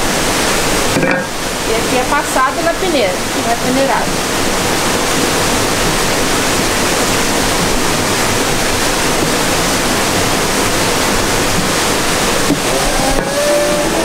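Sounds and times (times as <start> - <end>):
rush of running water: 0.0 - 14.0.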